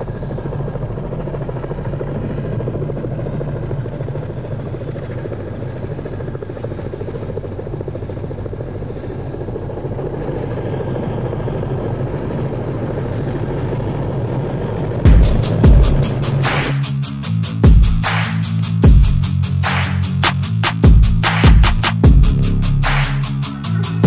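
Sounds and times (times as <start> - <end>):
helicopter engine and rotor drone: 0.0 - 24.0.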